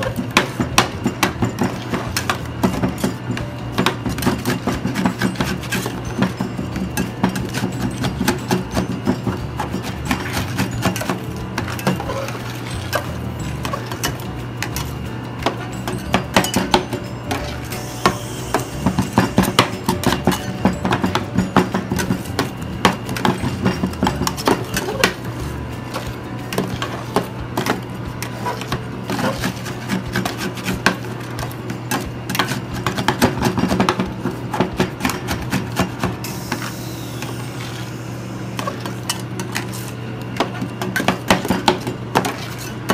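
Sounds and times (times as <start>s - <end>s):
metal spatulas tapping and scraping: 0.0s - 25.3s, 25.9s - 36.2s, 38.6s - 42.9s
machine low hum: 0.0s - 42.9s.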